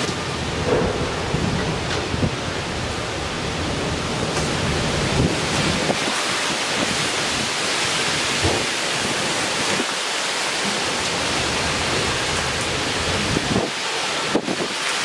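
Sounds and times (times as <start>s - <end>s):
wind rumbling on microphone: 0.0s - 10.0s, 10.8s - 15.0s
heavy rain pouring: 0.0s - 15.0s.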